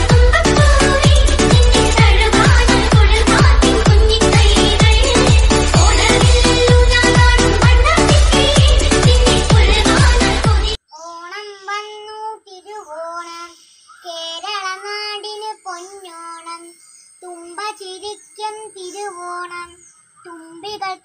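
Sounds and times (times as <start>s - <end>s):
girl singing unaccompanied: 0.0s - 21.0s.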